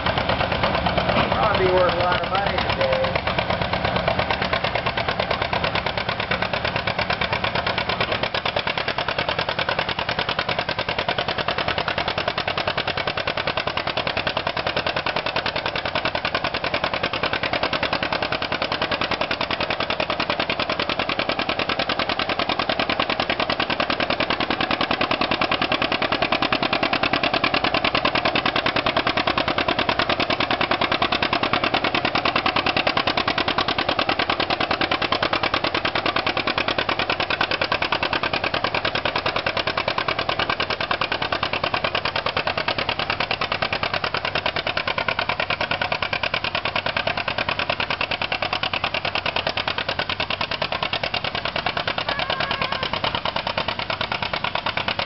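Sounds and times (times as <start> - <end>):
tractor engine popping: 0.0 - 55.0.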